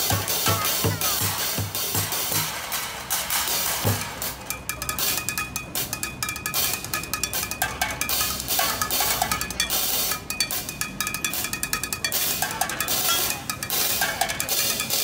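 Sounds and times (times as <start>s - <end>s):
sticks striking ringing metal pans: 0.0s - 2.6s, 3.8s - 15.0s.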